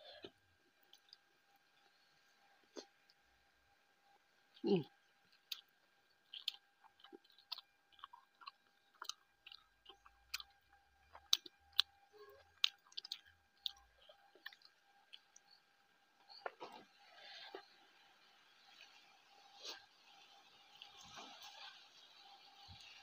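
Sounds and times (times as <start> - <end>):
person chewing with wet clicks: 0.2 - 3.3, 4.0 - 23.0.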